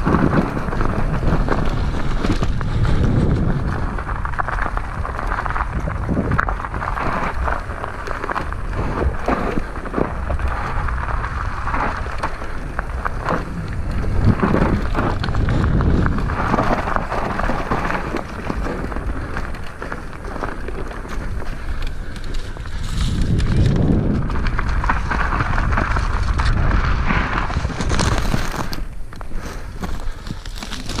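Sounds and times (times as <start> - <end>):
low rumble: 0.0 - 29.2
bike tyres crunching over leaves: 0.0 - 31.0.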